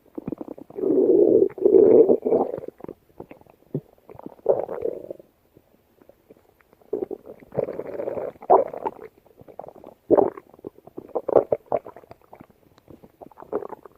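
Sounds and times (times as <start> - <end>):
stomach growling and gurgling: 0.0 - 13.9.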